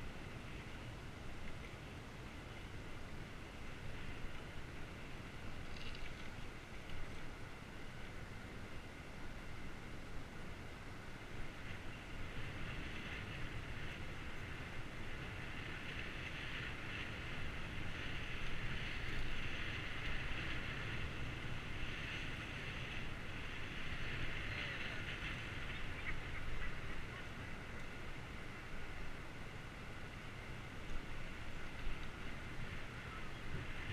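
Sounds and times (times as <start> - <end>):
wind rumbling on microphone: 0.0 - 33.9.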